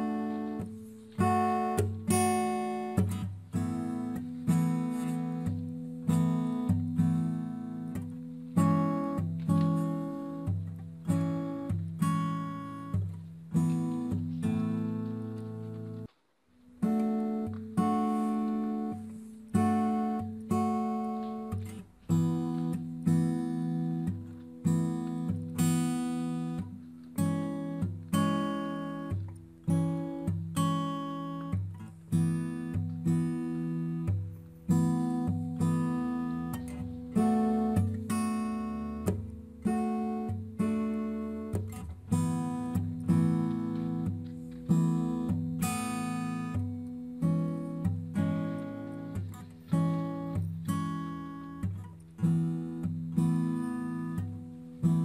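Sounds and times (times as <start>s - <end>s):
acoustic guitar chords: 0.0s - 55.0s.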